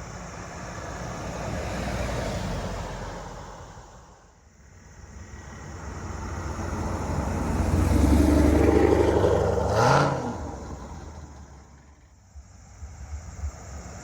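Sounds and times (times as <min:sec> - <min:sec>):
car engine approaching: 0:00.0 - 0:14.0.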